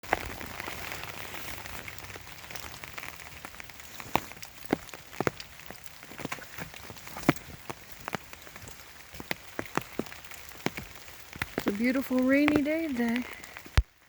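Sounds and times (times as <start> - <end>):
rain pattering on an umbrella: 0.0 - 14.0
steady hiss of rain: 0.0 - 14.0.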